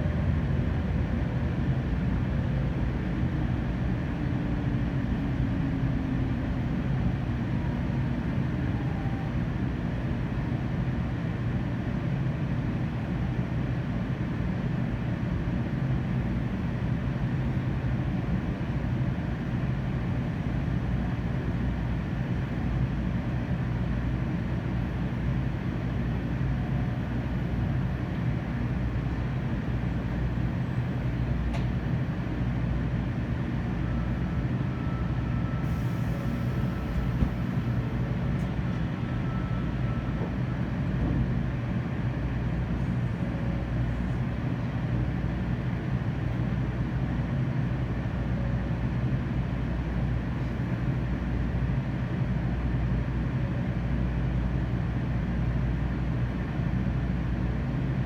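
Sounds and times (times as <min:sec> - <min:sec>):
low rumble inside train: 0:00.0 - 0:58.0.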